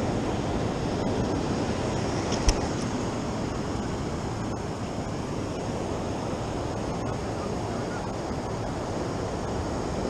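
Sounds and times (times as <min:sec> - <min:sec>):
ocean surf on a beach: 0:00.0 - 0:10.0.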